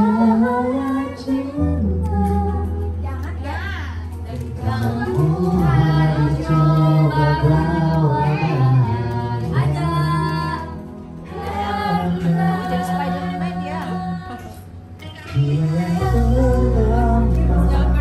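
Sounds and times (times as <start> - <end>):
people singing karaoke: 0.0 - 18.0
pop backing track: 0.0 - 18.0.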